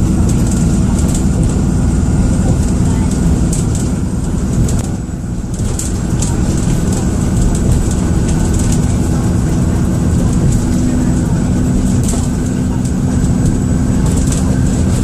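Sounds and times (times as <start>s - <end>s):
bus body rattles: 0.0s - 15.0s
bus diesel engine rumble: 0.0s - 15.0s.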